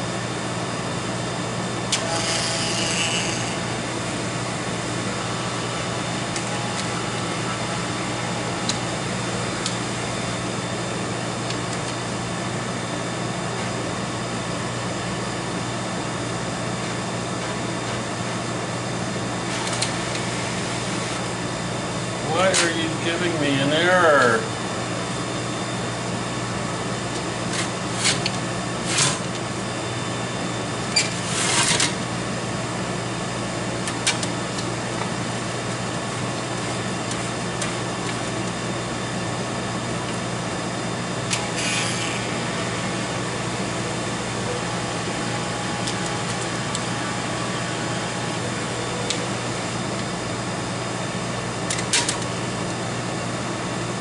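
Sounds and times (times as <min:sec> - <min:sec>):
fan-like machine hum: 0:00.0 - 0:54.0.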